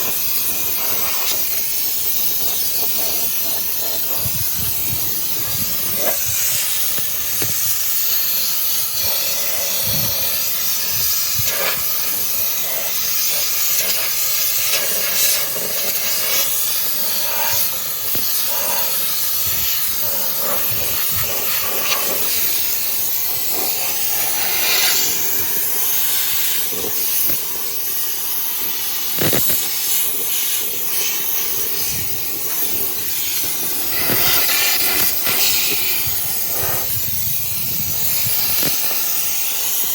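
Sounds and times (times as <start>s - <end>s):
steam cleaner hissing: 0.0s - 39.9s.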